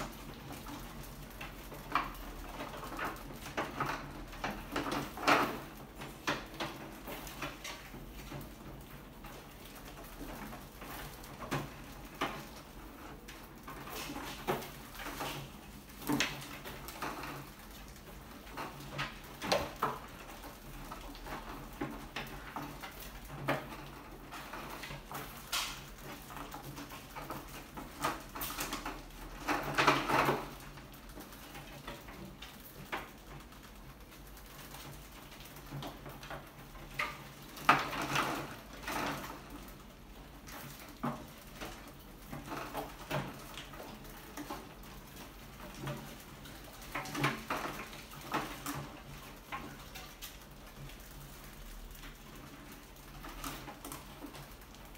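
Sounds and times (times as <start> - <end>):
rats scrabbling and scratching: 0.0 - 54.9.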